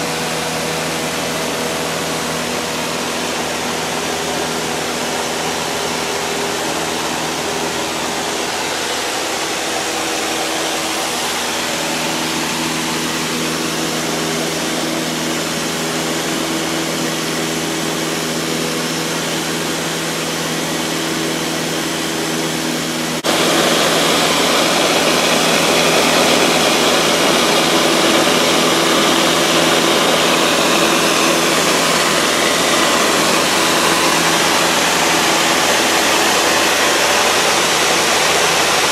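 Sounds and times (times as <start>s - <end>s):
plane engine and propeller drone: 0.0s - 38.9s.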